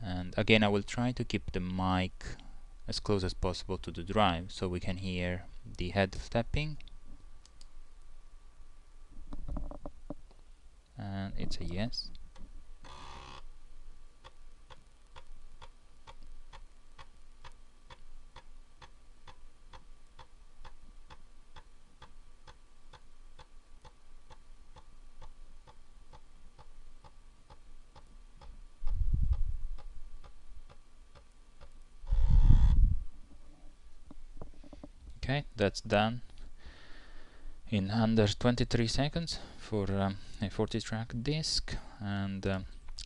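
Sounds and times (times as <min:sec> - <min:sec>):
faint hum of spinning drive: 0:00.0 - 0:43.0.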